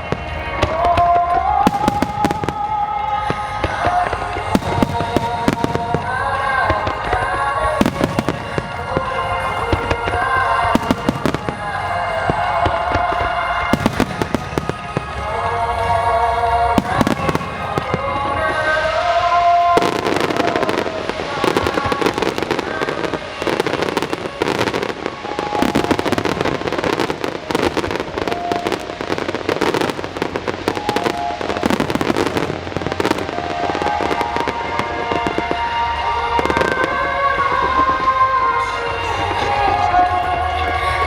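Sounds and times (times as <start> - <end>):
fireworks bursting: 0.0 - 41.0
song with sung melody: 0.0 - 41.0.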